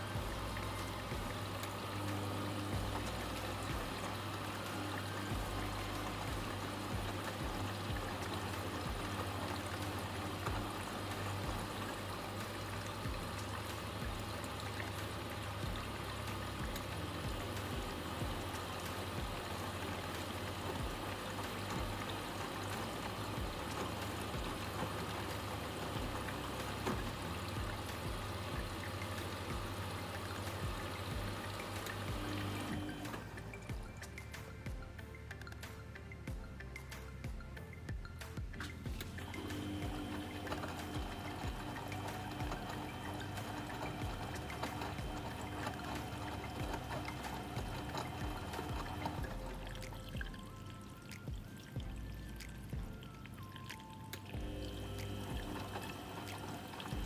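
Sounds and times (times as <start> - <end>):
water rushing in washing machine: 0.0 - 34.1, 38.7 - 57.0.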